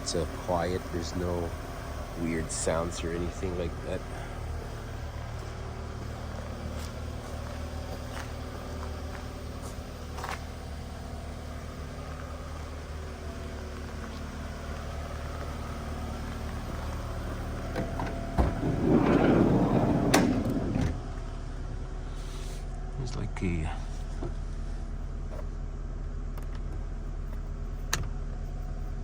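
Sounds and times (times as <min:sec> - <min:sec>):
van engine idling: 0:00.0 - 0:29.0.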